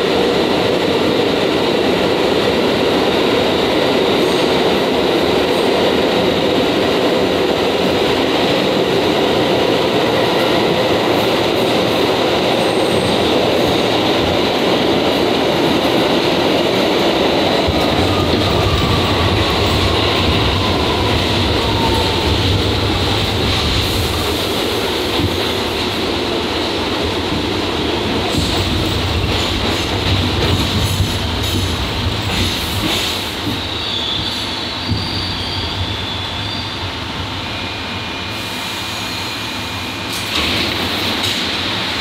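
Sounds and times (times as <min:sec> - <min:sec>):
subway wheel and track noise: 0:00.0 - 0:42.0.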